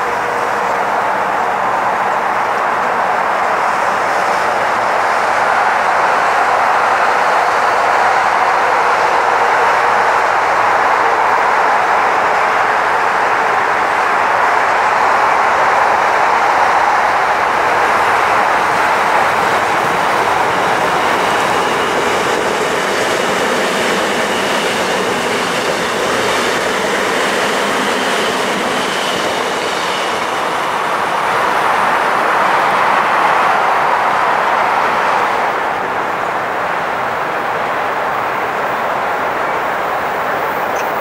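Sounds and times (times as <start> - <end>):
train wheels rushing on rail: 0.0 - 41.0.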